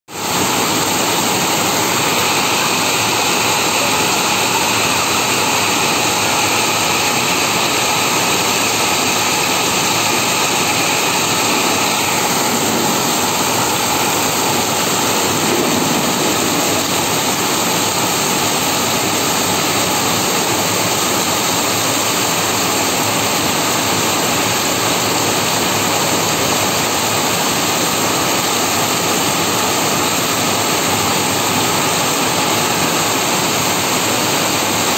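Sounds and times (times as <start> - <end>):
heavy rain on concrete: 0.1 - 34.9.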